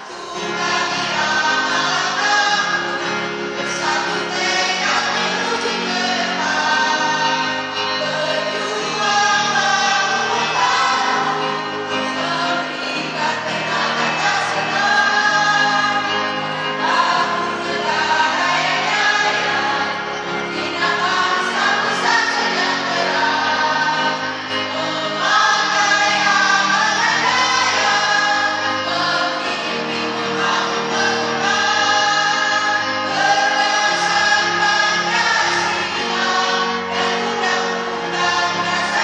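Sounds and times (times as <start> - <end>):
mixed choir singing: 0.0 - 39.0.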